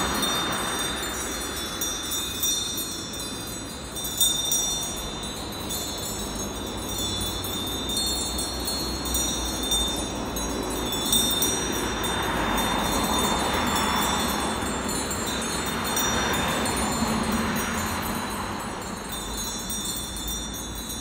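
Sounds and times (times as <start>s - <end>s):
small metal bells ringing: 0.0s - 21.0s.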